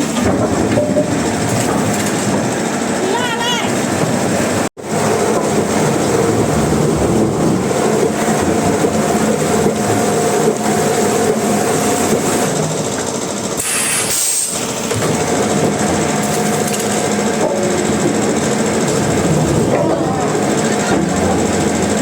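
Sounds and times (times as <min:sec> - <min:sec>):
sawmill machinery humming: 0:00.0 - 0:22.0.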